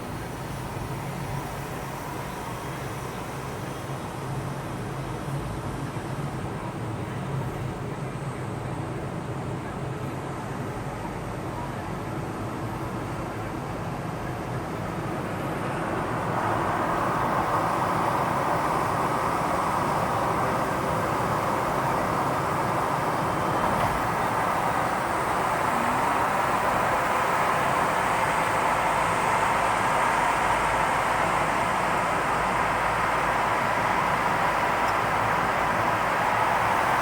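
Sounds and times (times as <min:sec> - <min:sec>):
steady vehicle noise: 0:00.0 - 0:37.0.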